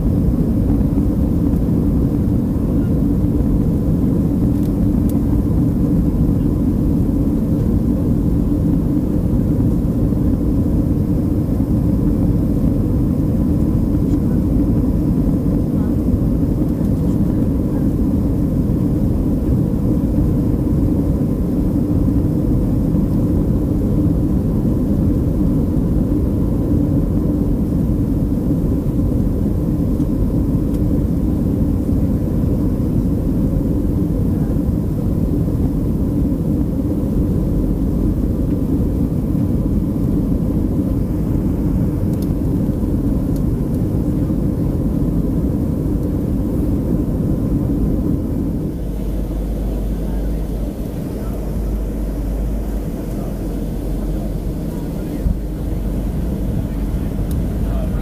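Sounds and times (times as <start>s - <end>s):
faint engine whine: 0.0s - 58.0s
jet engines rumbling in cabin: 0.0s - 58.0s.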